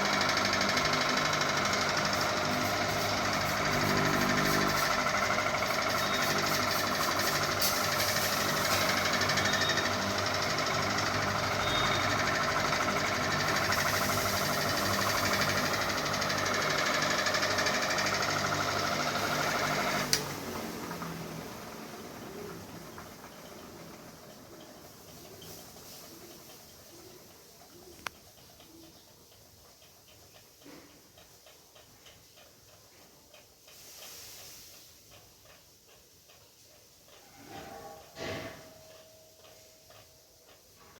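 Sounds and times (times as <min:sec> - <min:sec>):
ceiling fan rattling: 0:00.0 - 0:40.9.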